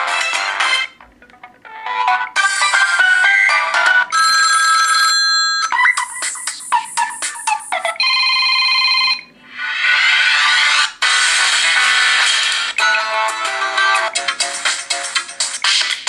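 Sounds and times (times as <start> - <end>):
electronic ringtone tunes: 0.0 - 14.7.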